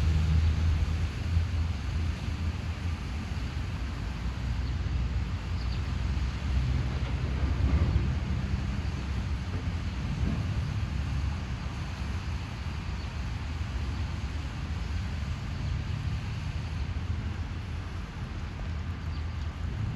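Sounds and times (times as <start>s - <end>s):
locomotive diesel engine rumbling: 0.0s - 19.9s.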